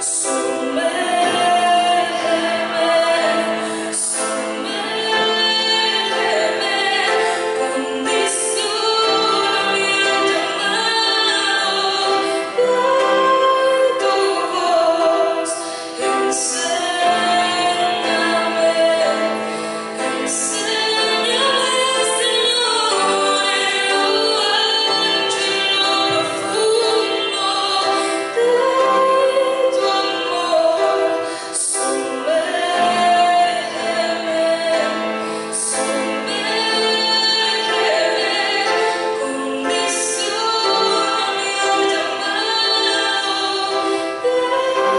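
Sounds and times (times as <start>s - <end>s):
musical accompaniment: 0.0s - 44.9s
woman singing worship song: 0.0s - 44.9s.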